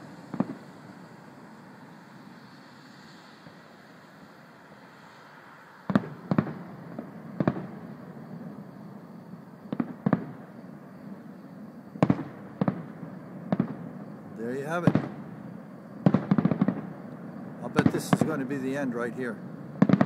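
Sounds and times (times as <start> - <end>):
distant fireworks bangs: 0.0 - 3.8, 5.8 - 20.0.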